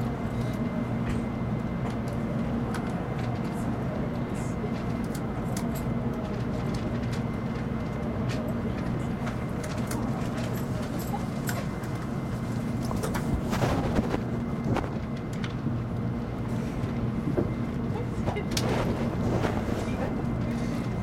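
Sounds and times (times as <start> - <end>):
train cabin running hum: 0.0 - 21.0.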